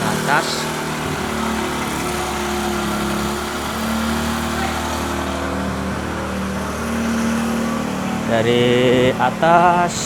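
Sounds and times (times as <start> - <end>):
engine running with low hum: 0.0 - 10.0.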